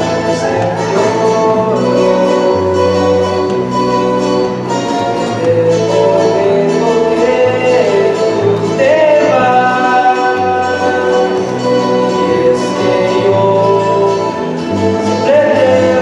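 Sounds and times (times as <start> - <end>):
acoustic guitars playing: 0.0 - 16.0
person singing: 0.0 - 16.0.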